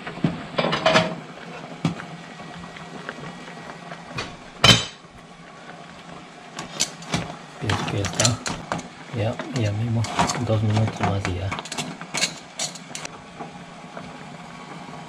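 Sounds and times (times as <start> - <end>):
pot boiling hiss: 0.0 - 15.0.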